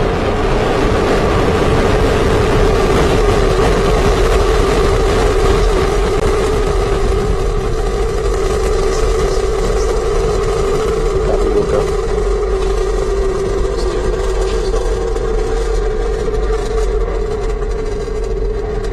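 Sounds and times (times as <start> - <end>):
rocket engines rumbling: 0.0 - 18.9.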